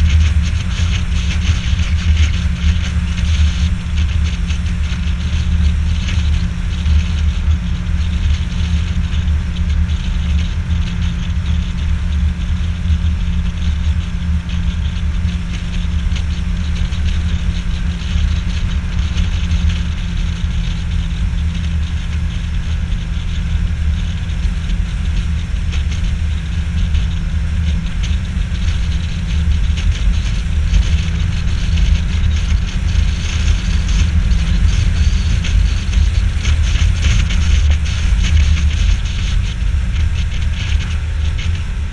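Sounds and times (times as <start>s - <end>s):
outboard motor drone: 0.0s - 41.9s.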